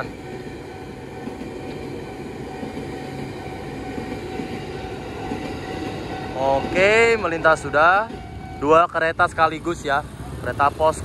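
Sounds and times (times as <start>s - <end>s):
electric train passing on rails: 0.0s - 11.0s.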